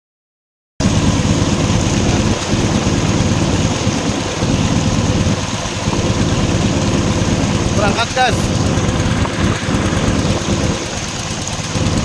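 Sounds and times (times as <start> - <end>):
boat engine humming: 0.8 - 12.0
rushing wind: 0.8 - 12.0.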